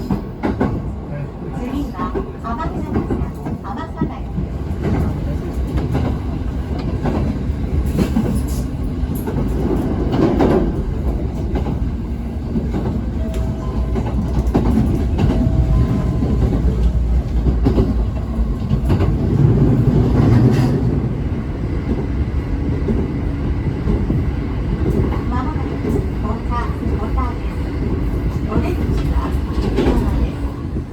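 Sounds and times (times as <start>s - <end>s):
train rumbling on track: 0.0s - 30.9s.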